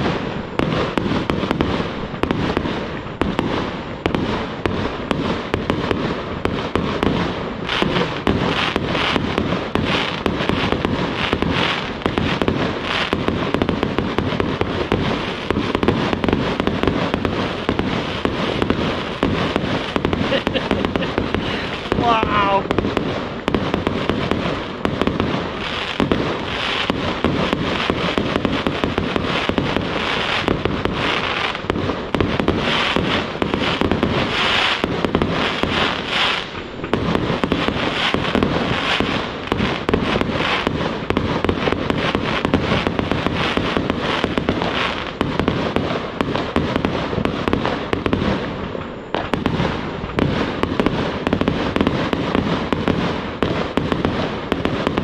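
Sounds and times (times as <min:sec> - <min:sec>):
aerial fireworks barrage: 0:00.0 - 0:55.0.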